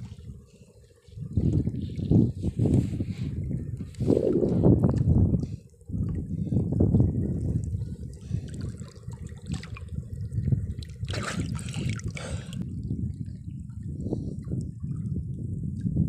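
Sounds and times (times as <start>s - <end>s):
water sloshing and splashing: 1.0s - 15.3s.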